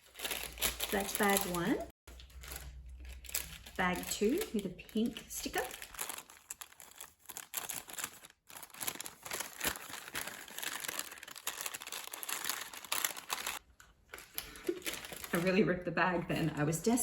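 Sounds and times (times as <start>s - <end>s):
paper bag crinkling and tearing: 0.0s - 15.6s.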